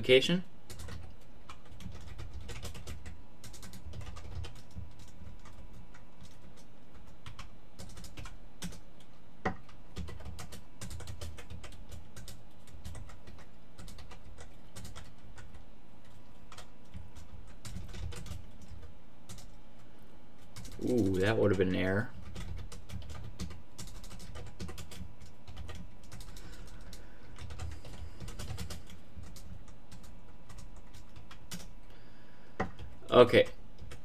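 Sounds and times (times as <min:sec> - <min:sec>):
typing on keyboard: 0:00.7 - 0:19.6, 0:20.4 - 0:31.8, 0:32.6 - 0:34.0.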